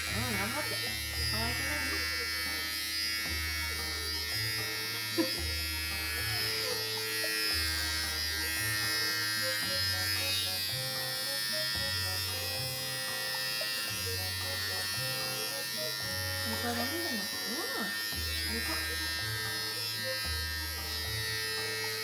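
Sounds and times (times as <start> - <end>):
electric clipper buzzing: 0.0 - 22.0.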